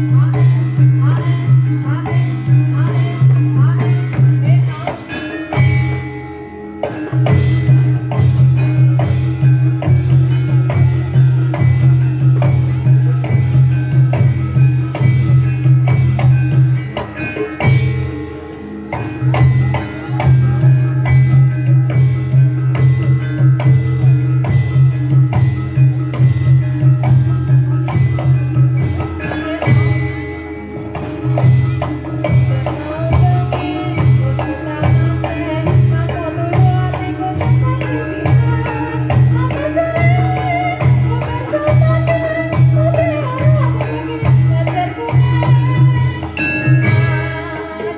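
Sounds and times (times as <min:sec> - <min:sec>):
percussion ensemble playing: 0:00.0 - 0:47.9.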